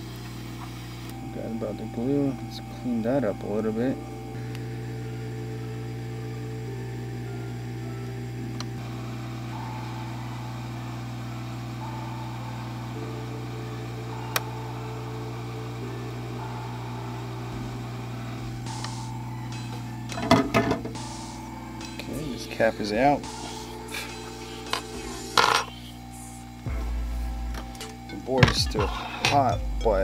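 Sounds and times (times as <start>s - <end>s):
hot air station blowing: 0.0s - 29.5s.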